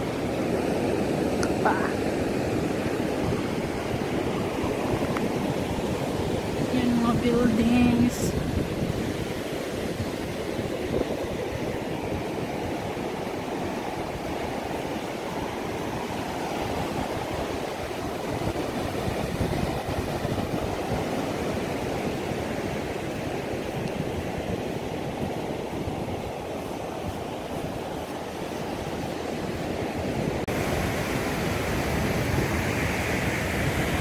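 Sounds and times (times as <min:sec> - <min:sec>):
surf washing onto beach: 0:00.0 - 0:34.0
wind buffeting microphone: 0:00.0 - 0:34.0.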